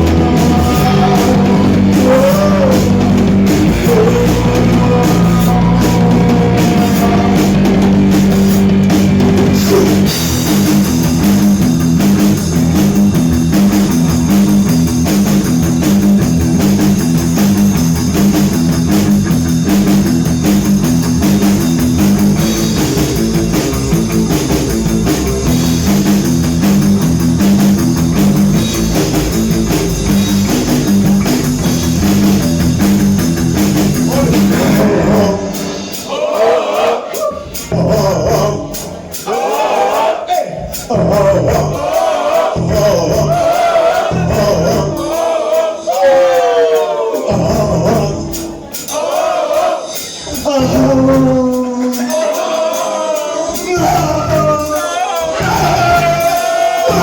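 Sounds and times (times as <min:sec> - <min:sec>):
rock music with drums and guitar: 0:00.0 - 0:39.4, 0:40.6 - 0:46.4, 0:47.2 - 0:57.0.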